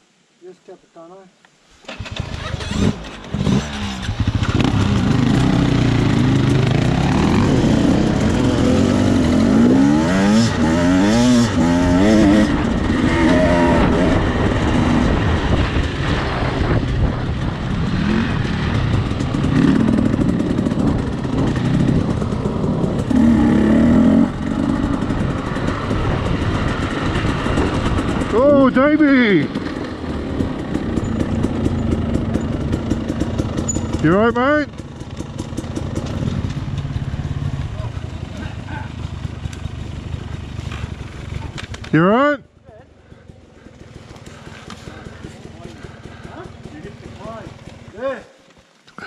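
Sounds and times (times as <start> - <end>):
dirt bike engine revving: 1.8 - 42.2, 43.0 - 48.0.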